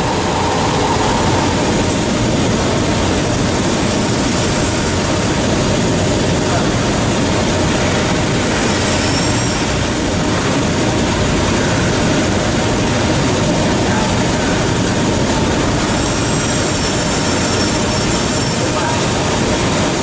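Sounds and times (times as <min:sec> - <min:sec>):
high-pitched machine whine: 0:00.0 - 0:20.0
milling machine noise: 0:00.0 - 0:20.0.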